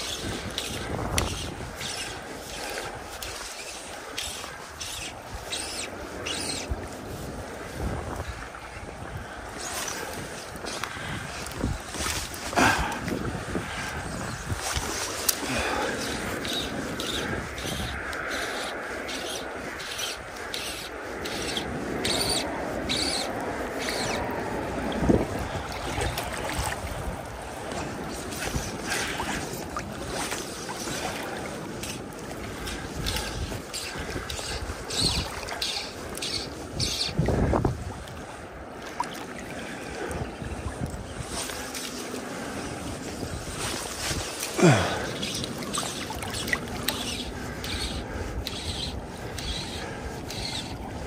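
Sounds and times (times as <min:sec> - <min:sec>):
water lapping around a boat: 0:00.0 - 0:51.0.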